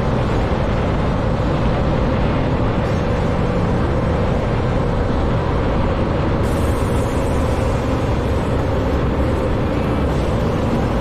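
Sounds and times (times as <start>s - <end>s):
road noise: 0.0s - 11.0s
truck engine droning: 0.0s - 11.0s.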